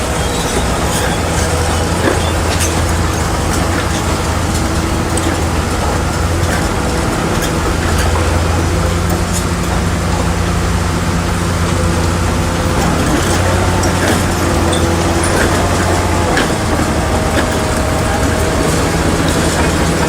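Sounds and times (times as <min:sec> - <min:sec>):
bulldozer diesel engine: 0:00.0 - 0:20.0
steel tracks clanking and squeaking: 0:00.0 - 0:20.0.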